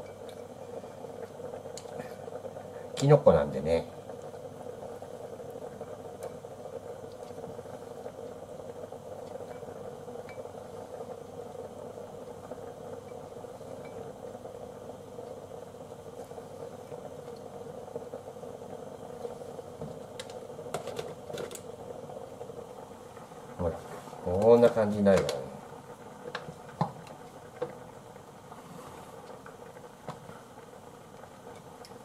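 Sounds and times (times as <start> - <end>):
pot of soup boiling: 0.0 - 32.0.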